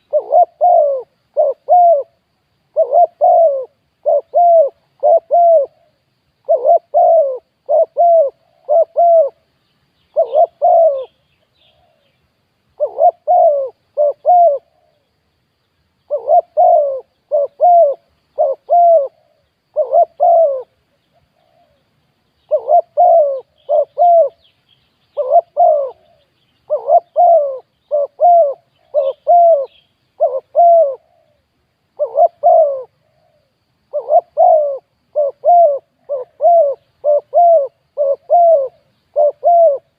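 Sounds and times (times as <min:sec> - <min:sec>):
dove cooing: 0:00.0 - 0:09.4, 0:10.1 - 0:12.1, 0:12.8 - 0:15.1, 0:16.1 - 0:24.5, 0:25.1 - 0:39.9.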